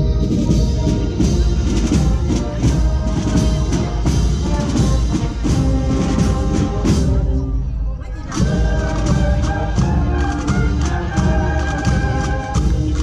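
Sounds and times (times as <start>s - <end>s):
drum beats: 0.0s - 7.4s, 8.2s - 13.0s
processional band melody: 0.0s - 13.0s.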